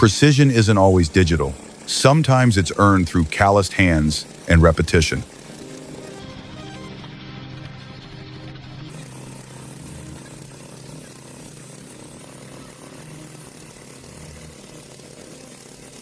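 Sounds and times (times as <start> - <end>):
motor running under load: 0.0 - 16.0.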